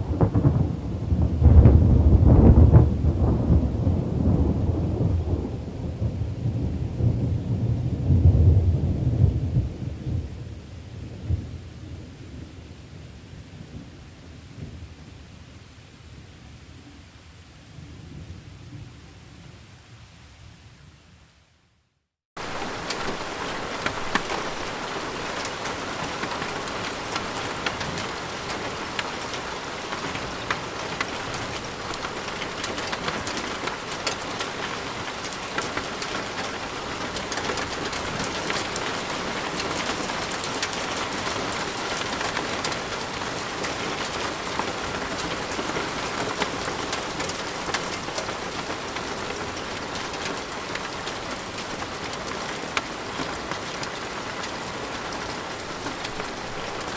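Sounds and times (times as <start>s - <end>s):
steady rain with ticking drops: 0.0s - 21.8s, 22.4s - 56.9s.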